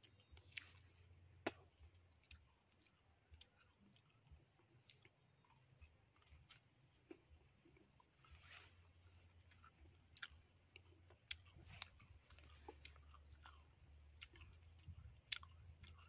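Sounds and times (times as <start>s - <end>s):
man chewing fruit: 0.0s - 16.0s.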